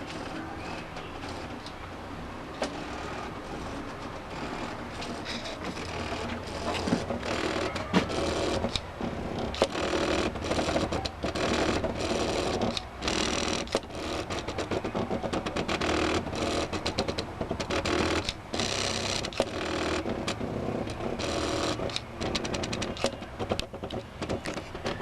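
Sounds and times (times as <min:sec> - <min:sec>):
stepper motors buzzing whir: 0:00.0 - 0:01.9, 0:02.5 - 0:25.0.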